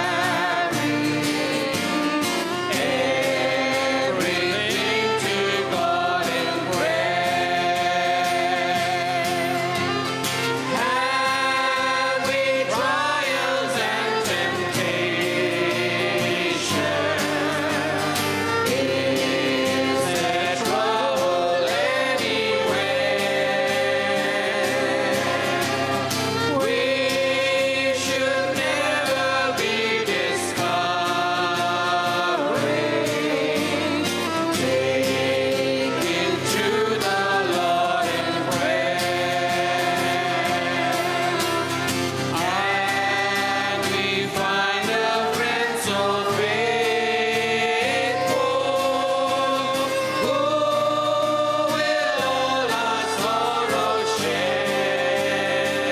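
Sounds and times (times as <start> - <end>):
group singing worship song: 0.0 - 55.9
guitar: 0.0 - 55.9
keyboard: 0.0 - 55.9.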